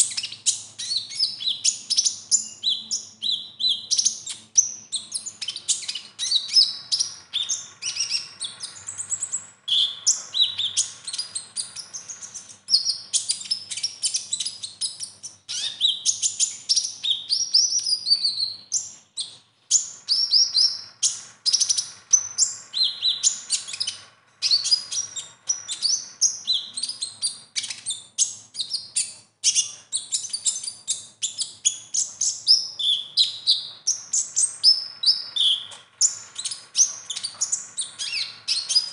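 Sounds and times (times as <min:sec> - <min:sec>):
bird singing chattering song: 0:00.0 - 0:38.9.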